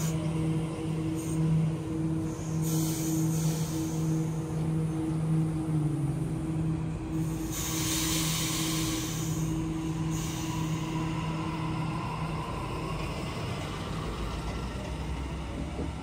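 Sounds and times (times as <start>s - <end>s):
hiss of moving carriages: 0.0s - 14.4s
electric train motor hum: 0.0s - 16.0s.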